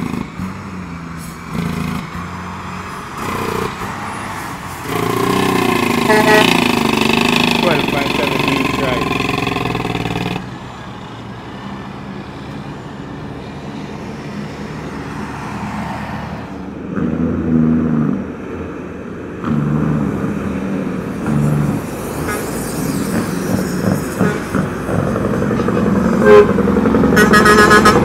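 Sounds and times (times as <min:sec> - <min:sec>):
diesel truck engines running: 0:00.0 - 0:28.0.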